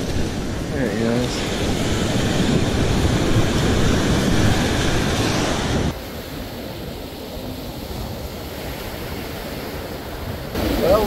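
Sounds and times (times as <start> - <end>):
beach surf washing: 0.0 - 11.0
wind buffeting microphone: 0.0 - 11.0.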